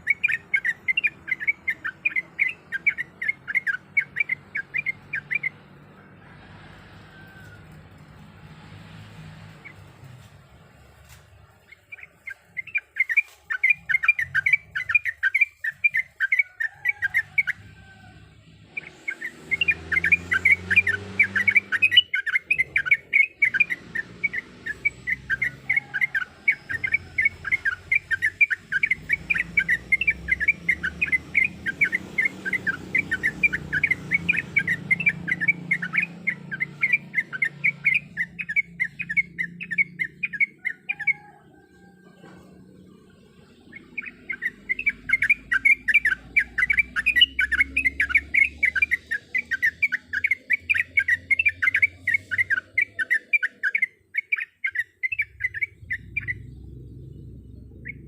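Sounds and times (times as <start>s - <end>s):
bird chattering song: 0.0s - 6.1s, 9.5s - 18.0s, 18.7s - 58.0s.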